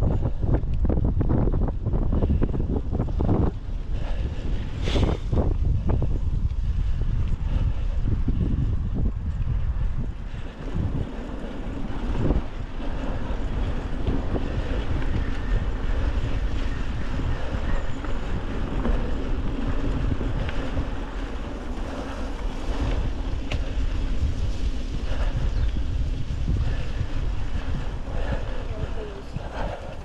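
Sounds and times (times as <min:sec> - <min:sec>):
bike rolling on rough trail: 0:00.0 - 0:30.0
wind buffeting microphone: 0:00.0 - 0:30.0.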